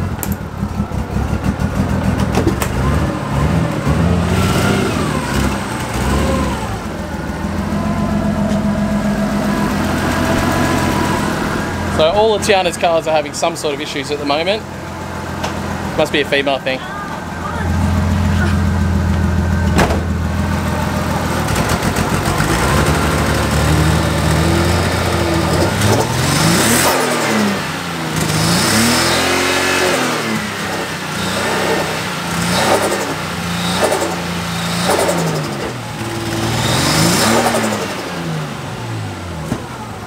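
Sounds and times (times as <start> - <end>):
misfiring car engine revving: 0.0 - 40.0.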